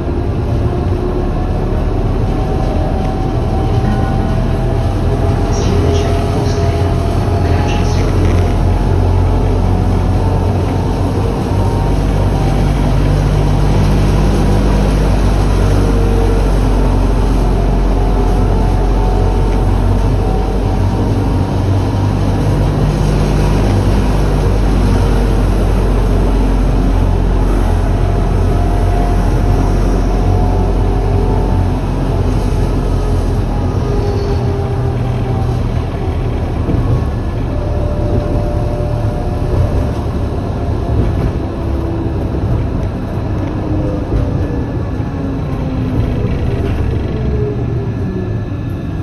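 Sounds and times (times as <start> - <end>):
low hum: 0.0 - 49.0
tram wheels rumbling on rails: 0.0 - 49.0.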